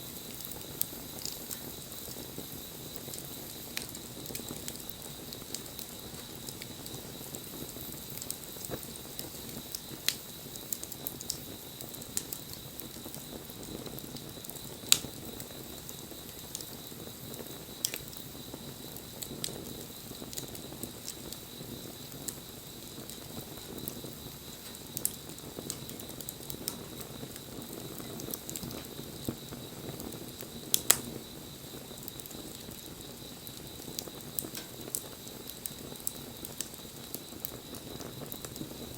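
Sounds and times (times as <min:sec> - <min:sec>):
fire crackling and popping: 0:00.0 - 0:38.9
hiss of flames: 0:00.0 - 0:38.9.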